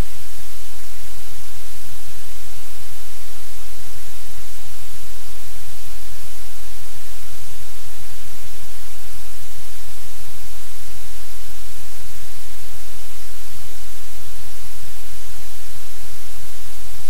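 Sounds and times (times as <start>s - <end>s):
static-like hiss: 0.0s - 17.0s.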